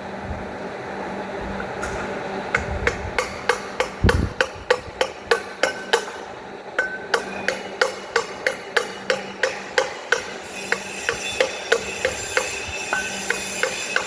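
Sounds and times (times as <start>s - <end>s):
sharp metallic taps: 2.6s - 14.0s.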